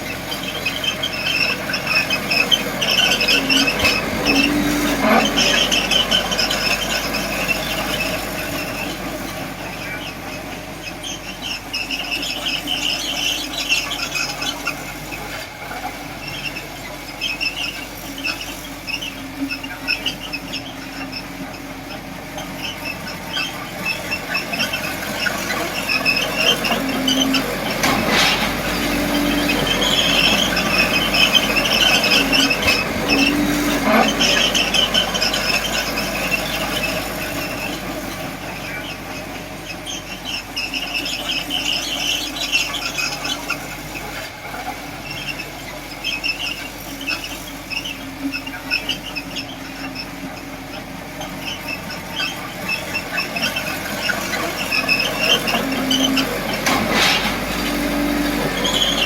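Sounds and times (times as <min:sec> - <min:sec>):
diesel engine running: 0:00.0 - 0:59.0
steel tracks squealing: 0:00.0 - 0:59.0.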